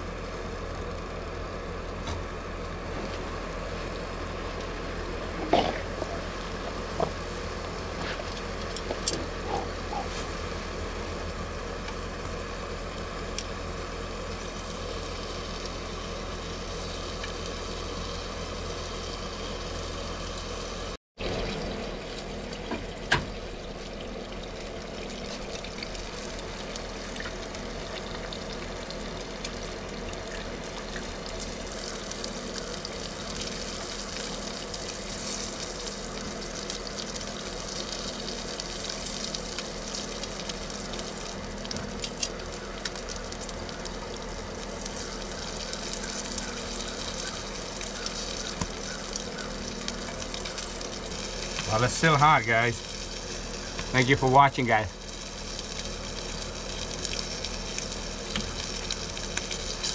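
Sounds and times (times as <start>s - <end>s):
bacon sizzling in a frying pan: 2.8s - 59.9s.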